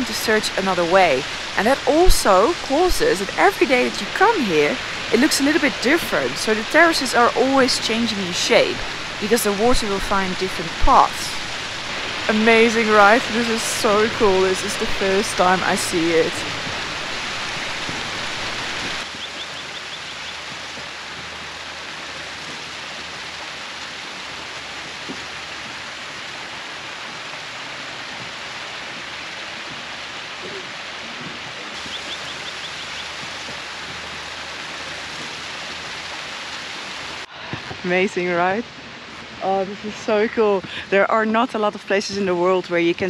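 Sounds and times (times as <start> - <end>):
water rushing over terraces: 0.0 - 43.0.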